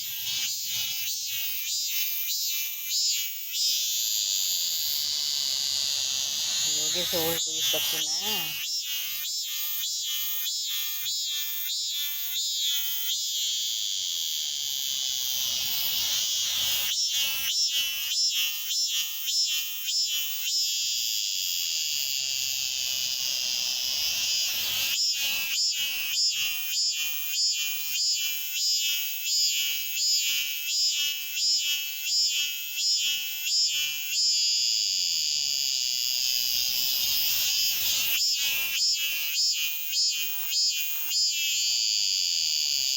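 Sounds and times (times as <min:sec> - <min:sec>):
cicadas buzzing: 0:00.0 - 0:42.9.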